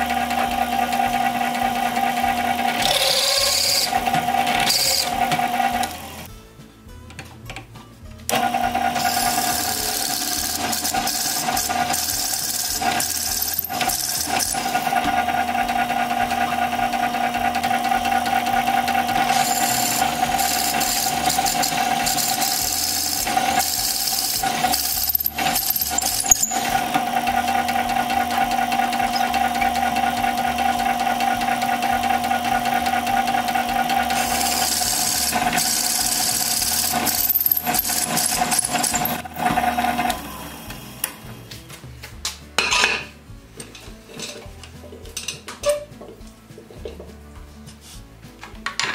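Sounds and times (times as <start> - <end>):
drill press motor running: 0.0 - 6.3, 8.3 - 41.2.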